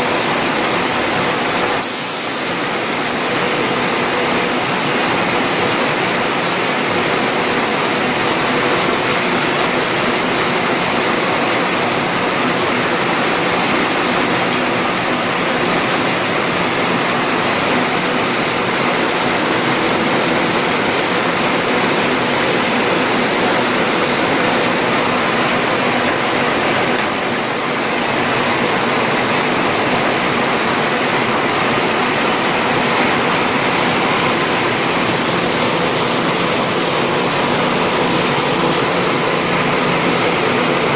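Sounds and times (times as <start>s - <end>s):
envelope machine rushing noise: 0.0s - 40.9s.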